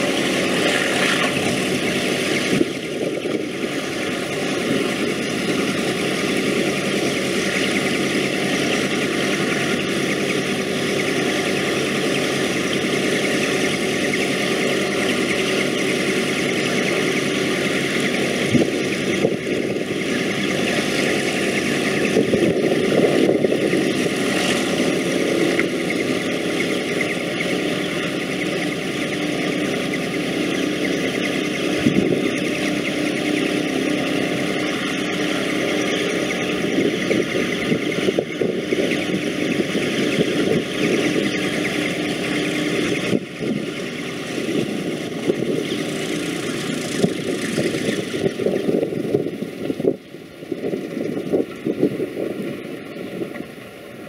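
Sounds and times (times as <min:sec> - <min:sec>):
aircraft radial engines idling: 0:00.0 - 0:54.0.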